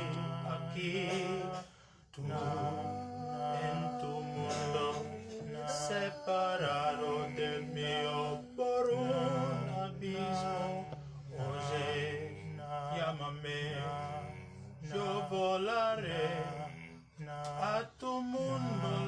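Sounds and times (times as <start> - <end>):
layered a cappella male singing: 0.0 - 19.0.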